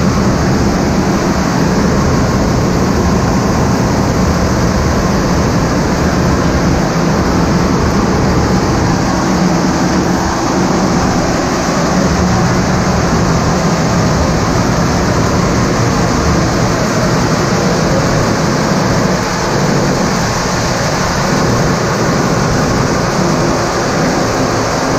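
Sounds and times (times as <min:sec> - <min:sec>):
sawmill rumble and whir: 0:00.0 - 0:24.9.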